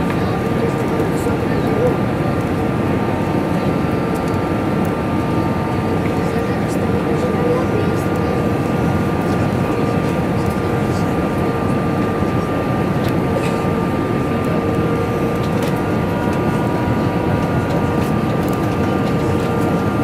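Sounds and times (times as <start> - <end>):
airplane cabin roar: 0.0 - 20.0.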